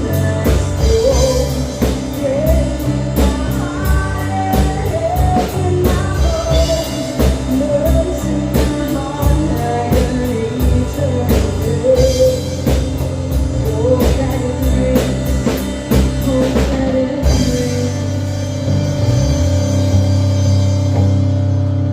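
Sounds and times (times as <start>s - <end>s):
person singing: 0.0s - 18.8s
drum kit: 0.0s - 21.9s
rock band playing: 0.0s - 21.9s.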